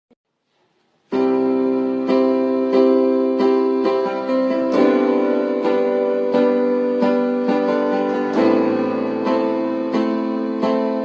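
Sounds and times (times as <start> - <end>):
keyboard playing sustained chords: 1.1 - 11.0.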